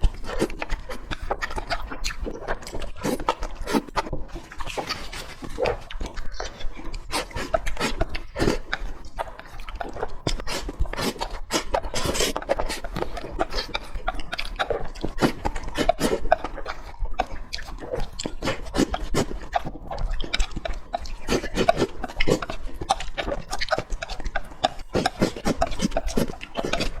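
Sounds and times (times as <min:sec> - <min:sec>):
wet chewing and lip-smacking: 0:00.0 - 0:27.0.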